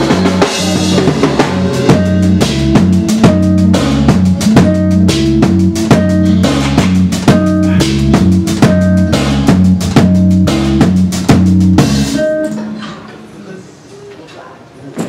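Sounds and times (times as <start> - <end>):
drum kit beat: 0.0 - 12.9
band playing: 0.0 - 13.3.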